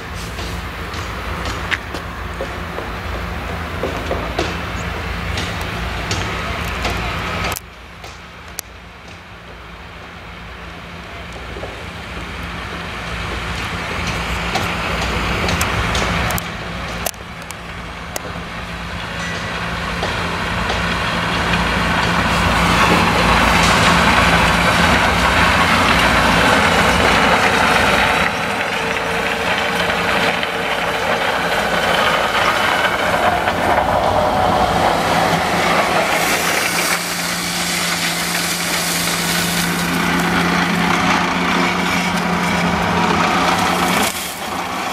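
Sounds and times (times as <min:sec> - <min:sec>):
tractor diesel engine: 0:00.0 - 0:44.9.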